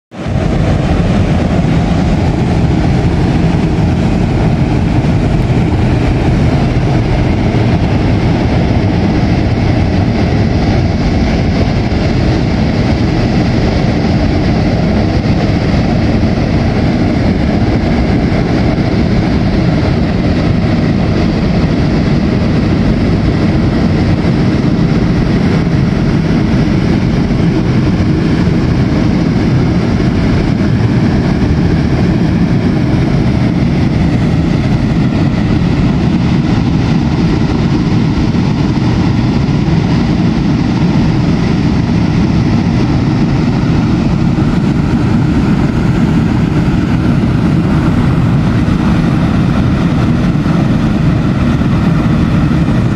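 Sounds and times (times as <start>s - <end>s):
deep rush of venting steam: 0.1s - 52.9s.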